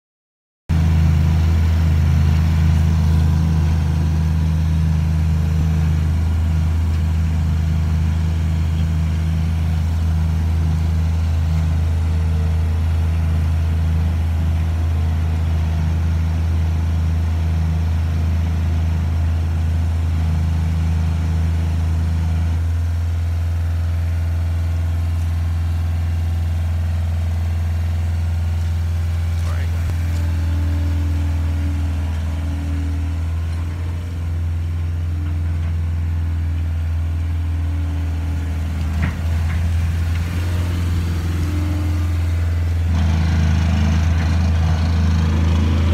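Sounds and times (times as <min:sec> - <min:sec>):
diesel engine idling: 0:00.7 - 0:45.9.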